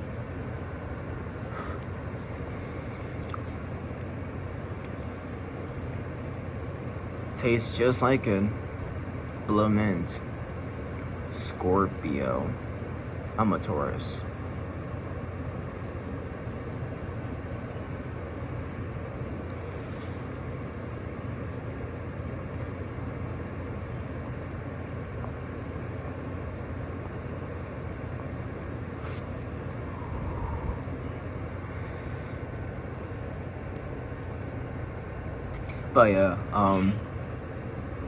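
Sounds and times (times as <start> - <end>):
outdoor rumble and hiss: 0.0 - 38.0.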